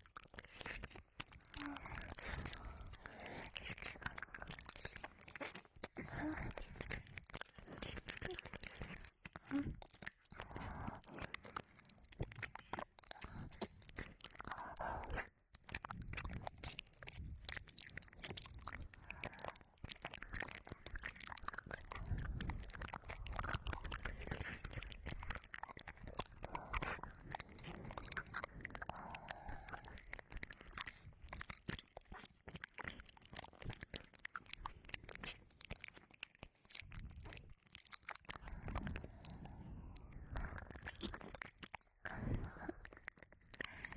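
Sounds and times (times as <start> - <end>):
wet mouth sounds and licking: 0.0 - 43.9.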